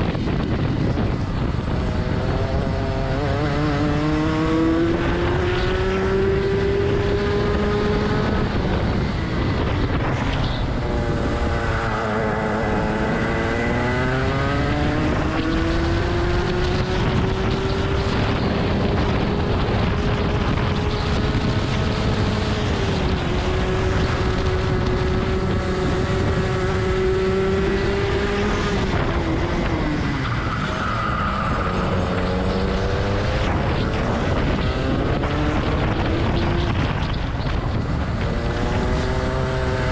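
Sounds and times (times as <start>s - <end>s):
kart engine at high revs: 0.0s - 39.9s.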